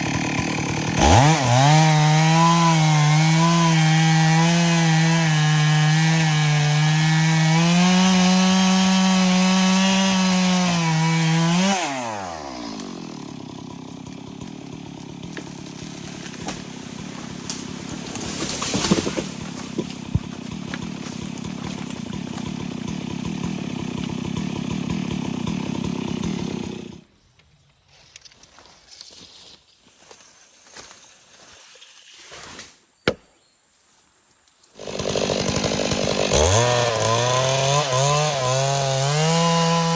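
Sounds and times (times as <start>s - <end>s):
chainsaw at full throttle: 0.0s - 27.0s, 34.8s - 39.9s.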